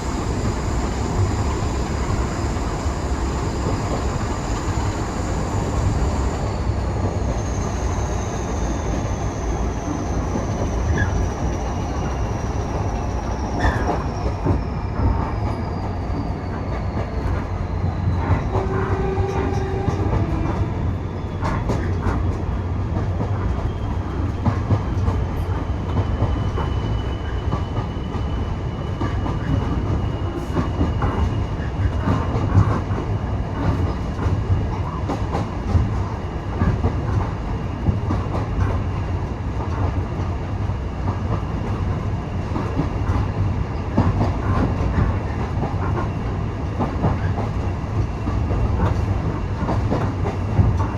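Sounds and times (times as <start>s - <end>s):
low rumble of train wheels: 0.0s - 50.9s.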